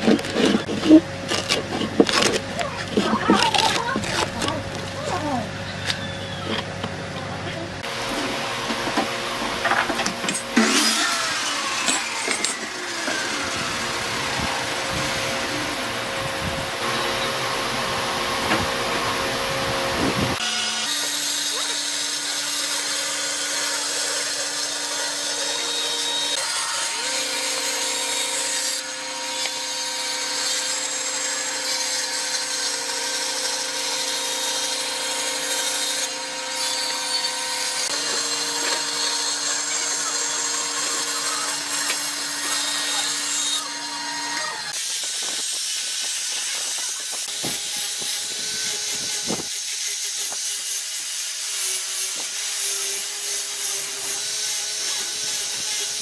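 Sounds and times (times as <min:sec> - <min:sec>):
angle grinder sanding wood: 0:00.0 - 0:05.3, 0:10.5 - 0:56.0
bandsaw cutting wood: 0:00.0 - 0:05.4, 0:07.8 - 0:56.0.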